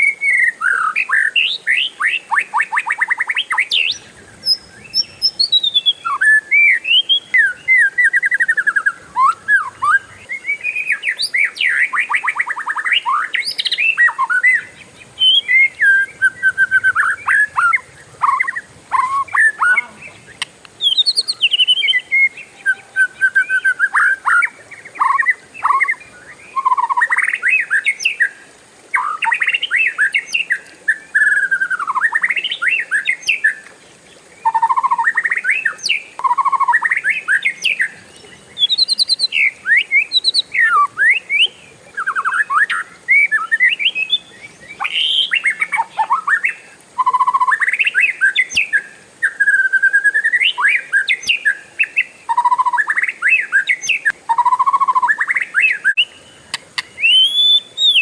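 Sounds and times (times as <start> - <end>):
songbird singing whistled phrases: 0.0 - 33.7, 34.4 - 58.0.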